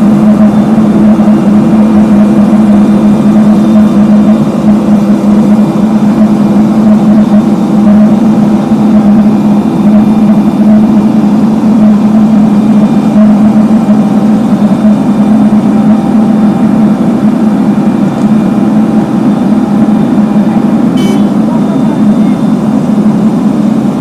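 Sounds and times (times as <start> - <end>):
paving machinery engine droning: 0.0 - 24.0.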